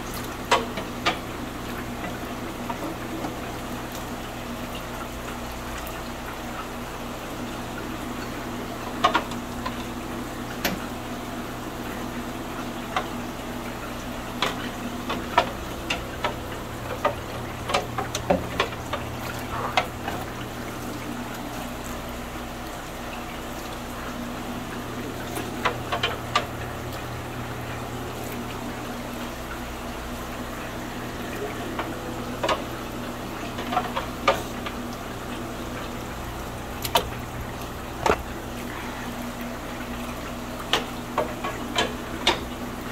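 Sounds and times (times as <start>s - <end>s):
water splashing and dripping: 0.0s - 42.9s.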